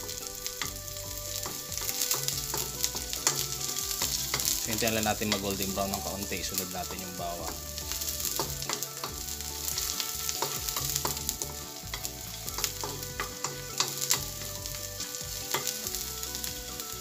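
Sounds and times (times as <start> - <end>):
onions sizzling in hot oil: 0.0 - 17.0
wooden spatula scraping wok: 0.0 - 17.0.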